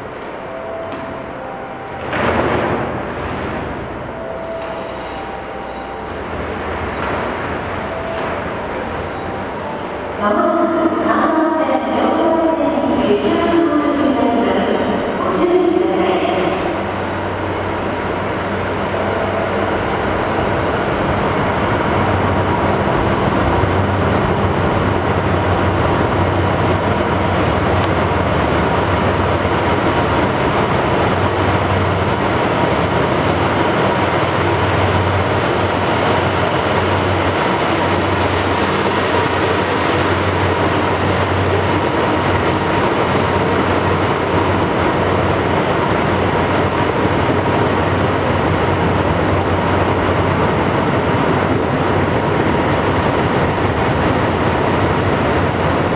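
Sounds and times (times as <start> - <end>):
train wheels rolling on rails: 0.0 - 10.2, 16.4 - 55.9
diesel locomotive engine drone: 0.0 - 55.9.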